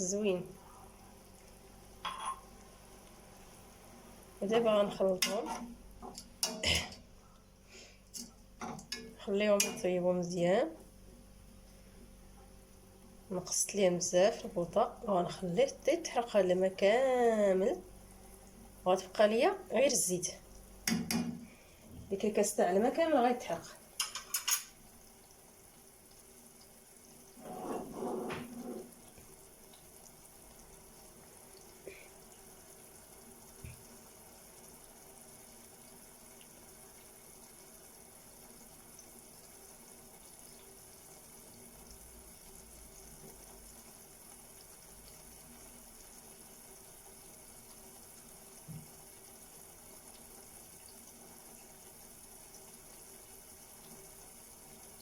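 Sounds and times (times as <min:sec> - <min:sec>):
water simmering in a pot: 0:00.0 - 0:55.0.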